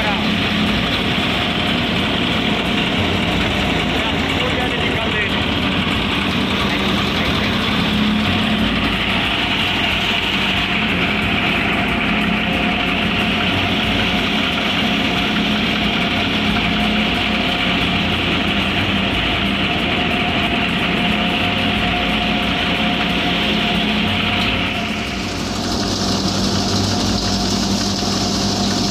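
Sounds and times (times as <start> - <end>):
wheat thresher droning: 0.0 - 28.9.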